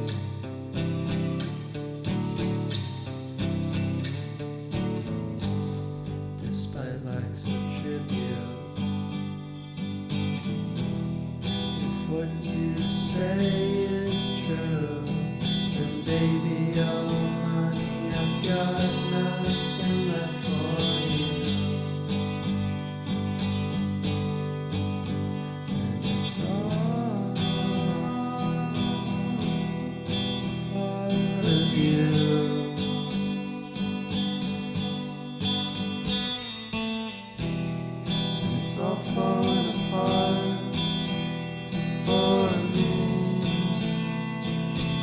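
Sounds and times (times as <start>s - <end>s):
acoustic guitar strummed and plucked: 0.0s - 45.0s.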